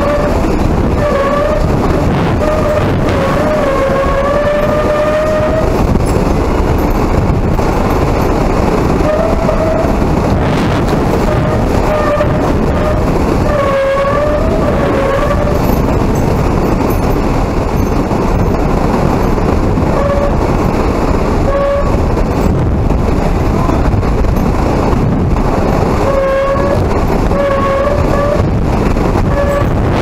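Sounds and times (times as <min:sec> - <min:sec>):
horn-like wind howl: 0:00.0 - 0:30.0
hurricane-force wind rushing: 0:00.0 - 0:30.0.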